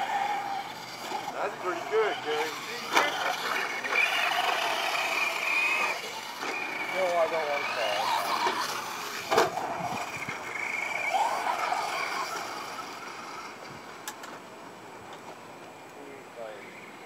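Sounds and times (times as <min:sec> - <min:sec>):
electric toy truck motor whining: 0:00.0 - 0:14.2.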